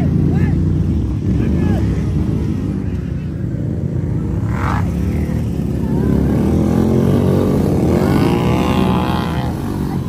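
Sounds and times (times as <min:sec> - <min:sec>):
off-road vehicle engines revving: 0:00.0 - 0:10.0.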